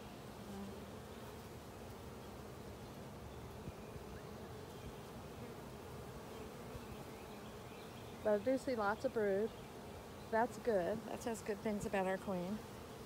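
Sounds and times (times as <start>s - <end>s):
honeybee colony buzzing: 0.0s - 13.0s.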